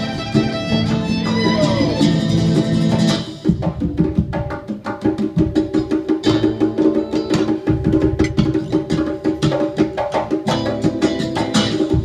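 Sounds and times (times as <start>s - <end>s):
bongos played in quick strokes: 0.0s - 12.0s.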